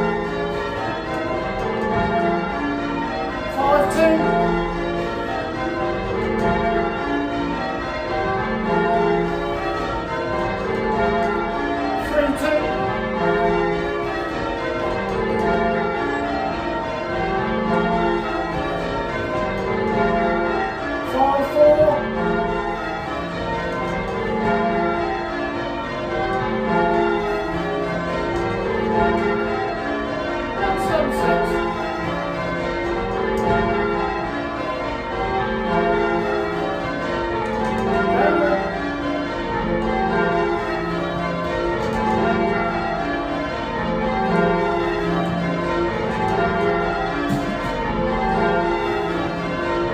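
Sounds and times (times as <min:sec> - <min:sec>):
church bells change ringing: 0:00.0 - 0:49.9.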